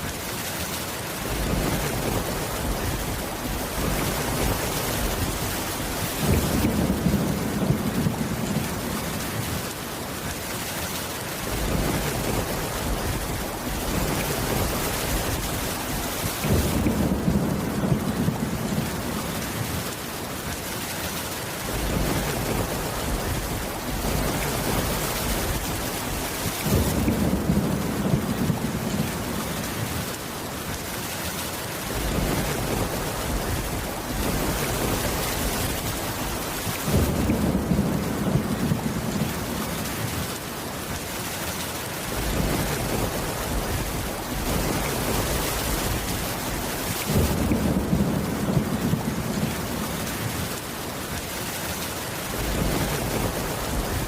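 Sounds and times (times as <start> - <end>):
heavy rain: 0.0 - 54.0
thunder rumbling: 1.2 - 9.8, 11.4 - 19.9, 21.7 - 30.2, 31.9 - 40.4, 42.1 - 50.7, 52.3 - 54.0.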